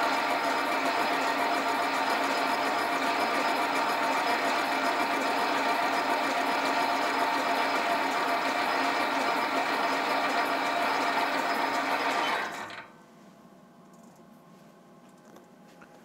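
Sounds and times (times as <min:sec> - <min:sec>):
bench lathe humming and whining: 0:00.0 - 0:12.9.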